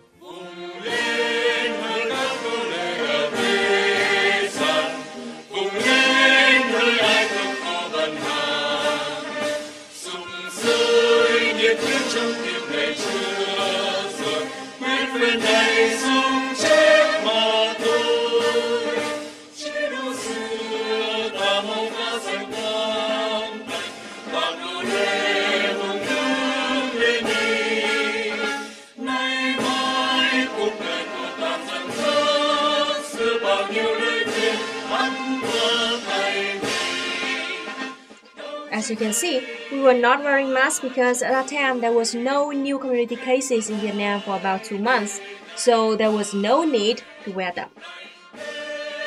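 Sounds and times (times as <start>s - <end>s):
crowd singing an anthem: 0.0s - 41.8s, 42.9s - 49.0s.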